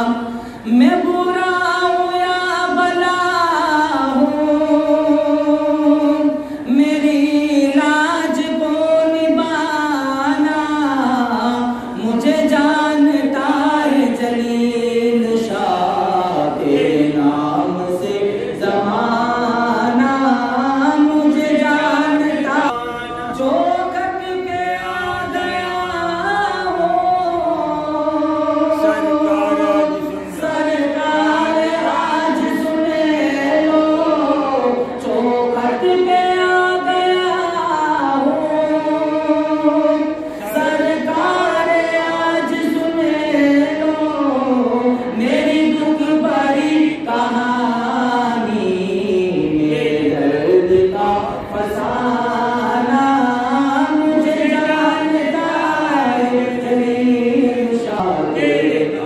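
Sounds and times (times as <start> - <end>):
man singing devotional chant: 0.0 - 59.0.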